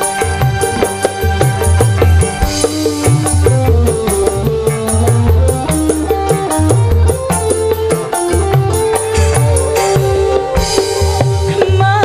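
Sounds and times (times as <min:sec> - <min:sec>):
bass guitar: 0:00.0 - 0:12.0
drum kit cymbals: 0:00.0 - 0:12.0
electric guitar: 0:00.0 - 0:12.0
hand drums beat: 0:00.0 - 0:12.0.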